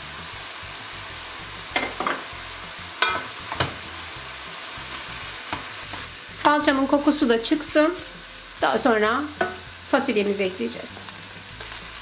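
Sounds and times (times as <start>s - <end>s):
meat and vegetables sizzling: 0.0s - 12.0s.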